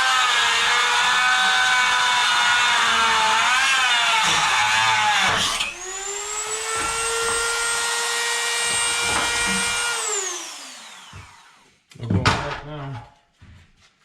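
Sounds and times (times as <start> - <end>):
electric grinder on sheet metal: 0.0 - 11.8.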